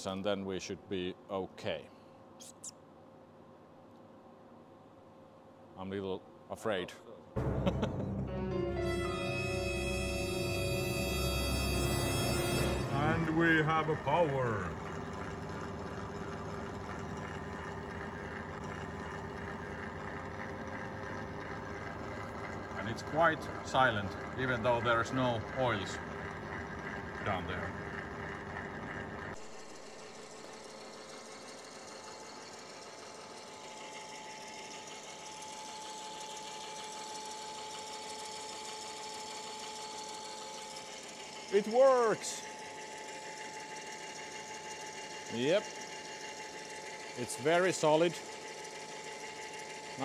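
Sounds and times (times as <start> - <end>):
thin whine: 7.4 - 50.0
electric motor humming: 8.3 - 50.0.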